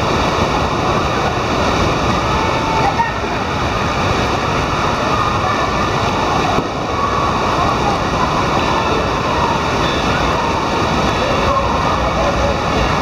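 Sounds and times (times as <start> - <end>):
faint voices of swimmers: 0.0 - 13.0
splashing pool water: 0.0 - 13.0.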